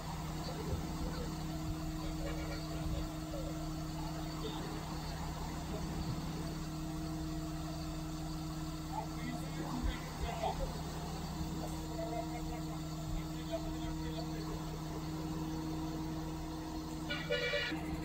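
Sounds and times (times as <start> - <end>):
crane engine humming steadily: 0.0 - 18.0.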